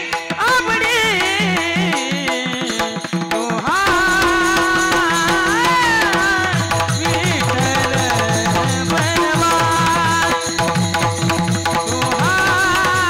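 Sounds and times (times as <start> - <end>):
person singing devotional melody: 0.0 - 13.0
tabla rhythm: 0.0 - 13.0.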